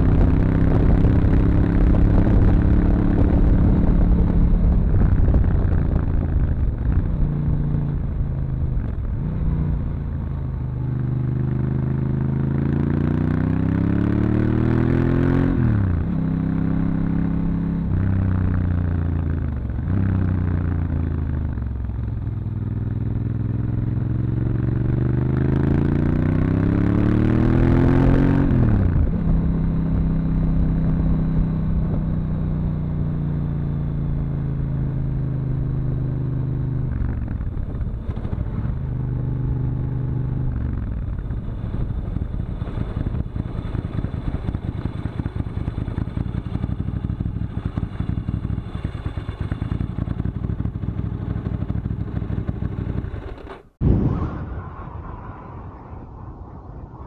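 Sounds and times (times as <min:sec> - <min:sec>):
wind rushing over microphone: 0:00.0 - 0:11.8, 0:13.5 - 0:33.2, 0:35.0 - 0:53.2, 0:53.8 - 0:57.0
motorcycle engine revving: 0:00.0 - 0:55.4.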